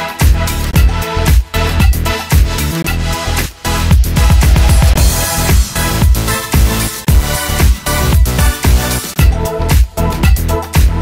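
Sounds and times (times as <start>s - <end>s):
dance music with steady beat: 0.0s - 11.0s.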